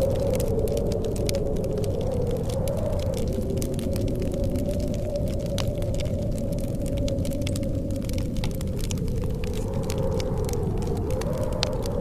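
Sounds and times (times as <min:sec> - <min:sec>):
blizzard wind blowing: 0:00.0 - 0:12.0
wood fire crackling: 0:00.0 - 0:12.0.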